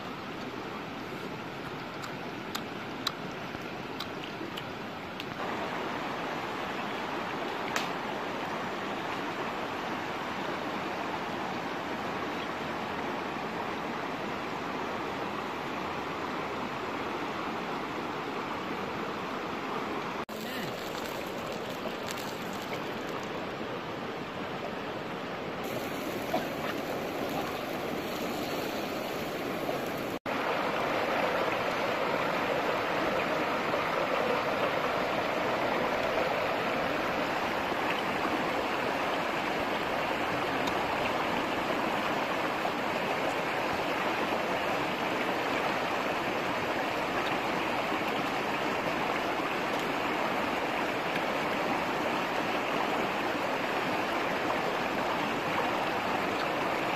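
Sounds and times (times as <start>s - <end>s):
stream rushing: 0.0s - 56.9s.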